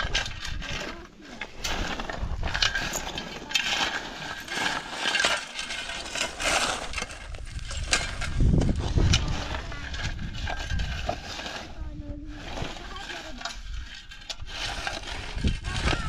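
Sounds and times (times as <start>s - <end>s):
gravel clinking and rattling: 0.0s - 16.0s
shovels scraping stony soil: 0.0s - 16.0s.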